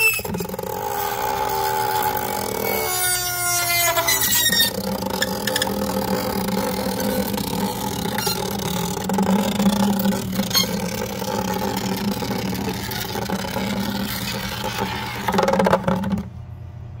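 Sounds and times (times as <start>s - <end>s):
air adapter whirling in bucket: 0.0s - 16.4s.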